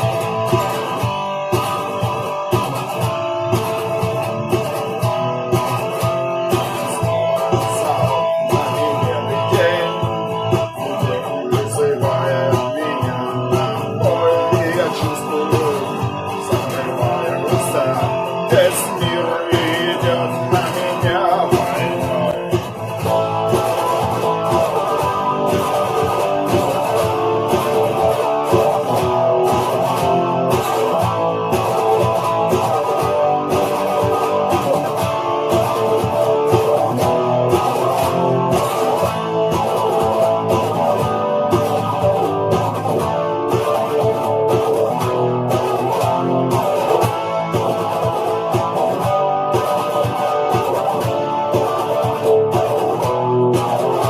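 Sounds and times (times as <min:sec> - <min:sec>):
bass guitar: 0:00.0 - 0:54.0
guitars: 0:00.0 - 0:54.0
steady drum beat: 0:00.0 - 0:54.0.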